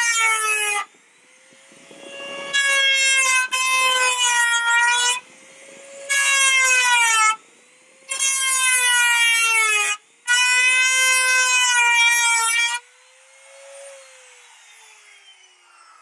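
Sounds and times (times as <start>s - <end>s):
rotary tool cutting metal: 0.0s - 16.0s.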